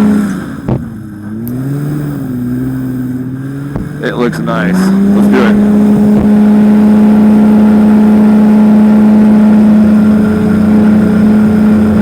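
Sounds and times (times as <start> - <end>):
engine and propeller running: 0.0 - 12.0.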